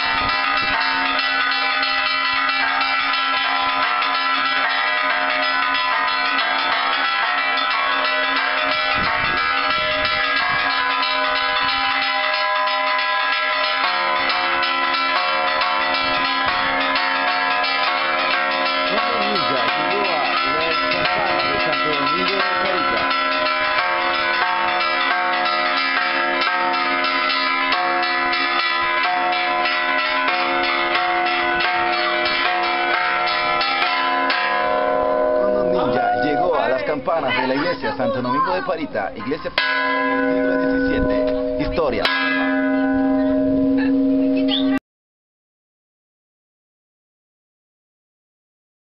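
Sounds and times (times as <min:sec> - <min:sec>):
lower-pitched bell: 0:00.0 - 0:36.9, 0:39.6 - 0:44.8
church bells pealing: 0:00.0 - 0:44.8.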